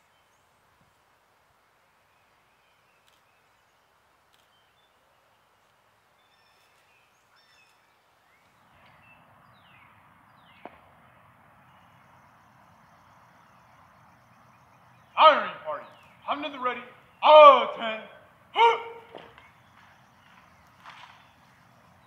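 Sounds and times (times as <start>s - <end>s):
faint bird chirps and calls: 1.6s - 10.8s, 11.6s - 22.0s.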